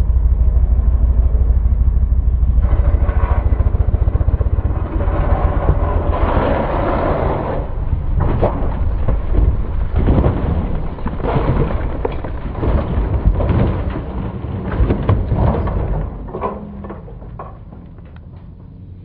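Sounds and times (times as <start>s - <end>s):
metal scraping and crunching: 2.4s - 19.0s
motorcycle crashing and sliding: 2.6s - 18.4s.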